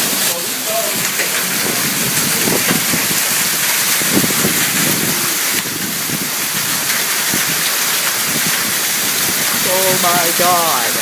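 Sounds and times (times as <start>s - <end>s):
gusting wind rumbling: 0.0s - 11.0s
heavy rain pouring: 0.0s - 11.0s.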